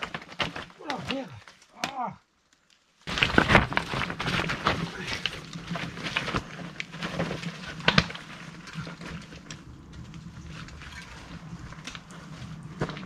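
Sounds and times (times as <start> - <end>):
mountain bike clattering over rocks: 0.0 - 13.0.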